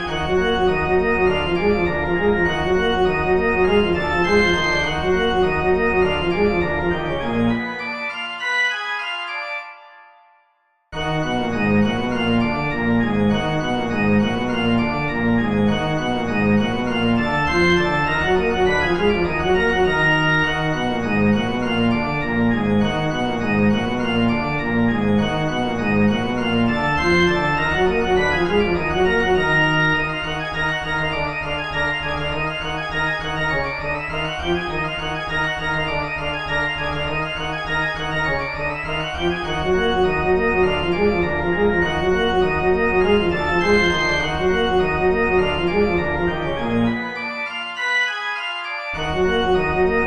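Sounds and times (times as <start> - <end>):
organ-like keyboard music: 0.0 - 50.0.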